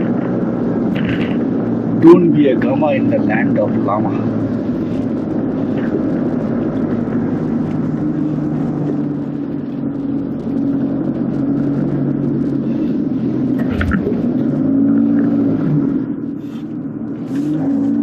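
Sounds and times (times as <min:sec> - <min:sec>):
car engine hum: 0:00.0 - 0:18.0
road and tyre noise: 0:00.0 - 0:18.0.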